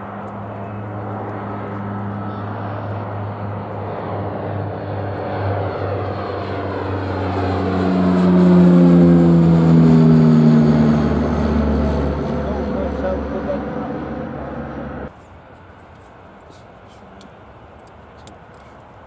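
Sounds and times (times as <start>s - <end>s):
airplane engines passing: 0.0s - 15.4s.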